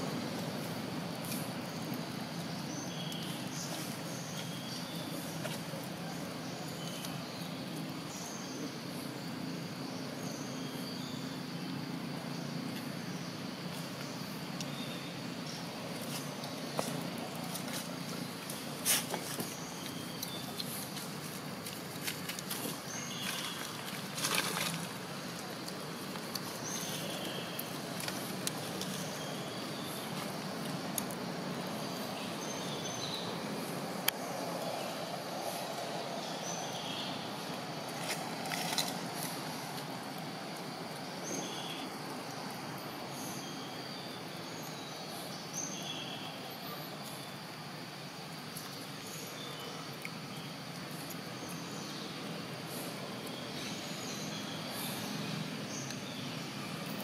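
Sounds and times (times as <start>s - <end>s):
outdoor background noise: 0.0s - 57.0s
rustle of dry leaves: 0.0s - 57.0s.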